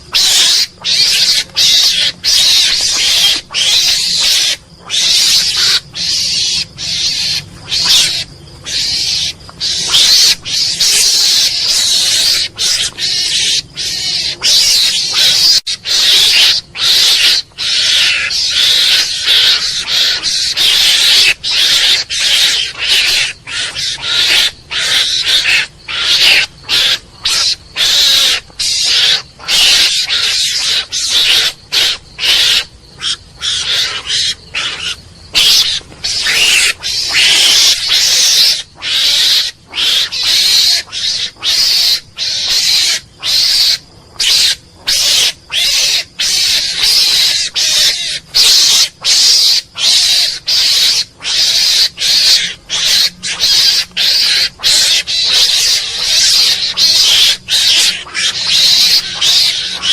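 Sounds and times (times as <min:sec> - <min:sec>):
mongoose raspy calls: 0:00.0 - 0:59.9.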